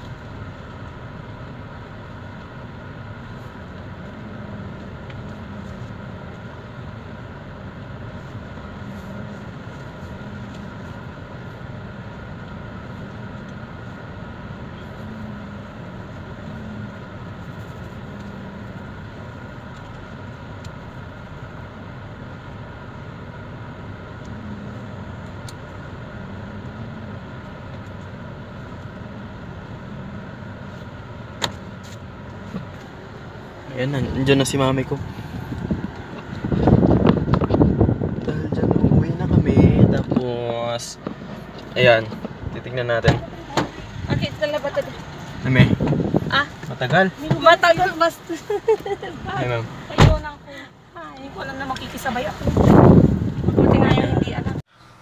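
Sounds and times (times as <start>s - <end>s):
car cabin engine hum: 0.0s - 55.0s.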